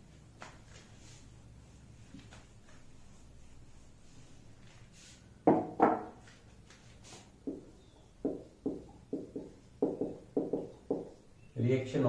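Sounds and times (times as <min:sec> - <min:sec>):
marker on whiteboard: 0:00.4 - 0:11.3.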